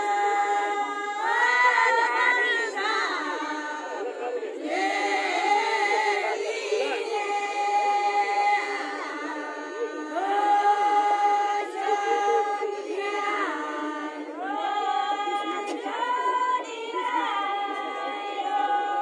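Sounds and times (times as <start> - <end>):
women singing folk song: 0.0 - 4.0, 4.6 - 19.0.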